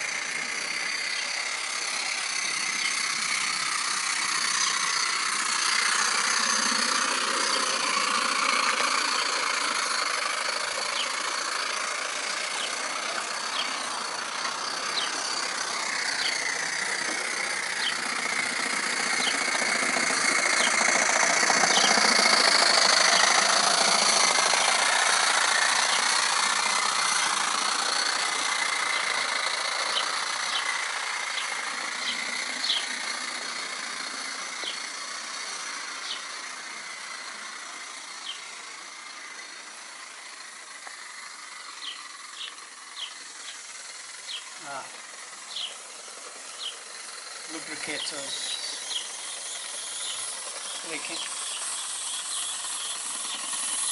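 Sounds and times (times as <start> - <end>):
model steam locomotive running: 0.0 - 53.9.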